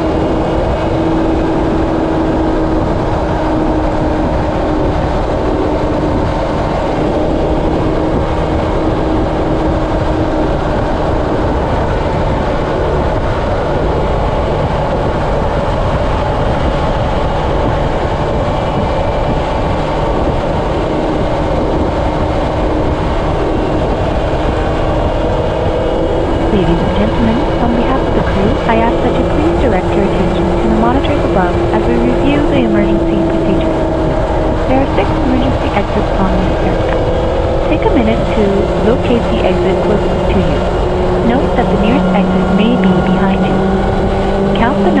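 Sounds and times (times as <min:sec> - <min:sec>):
low hum: 0:00.0 - 0:45.0
rushing travel drone: 0:00.0 - 0:45.0.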